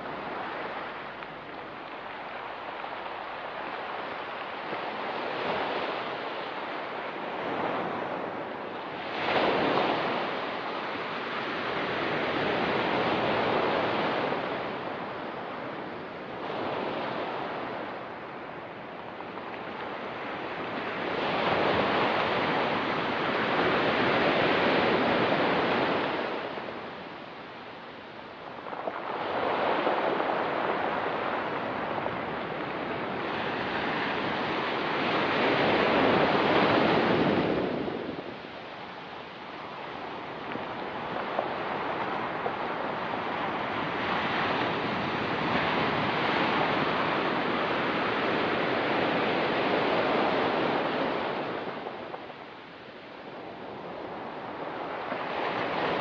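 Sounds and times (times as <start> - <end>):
ocean surf on pebble beach: 0.0 - 56.0.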